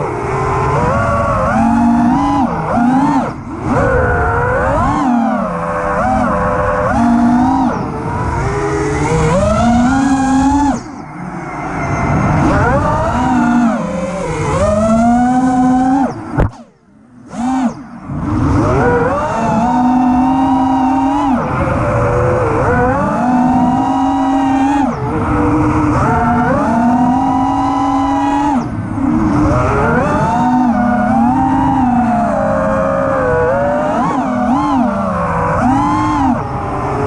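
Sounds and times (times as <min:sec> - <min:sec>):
quadcopter motors whining: 0:00.0 - 0:37.0.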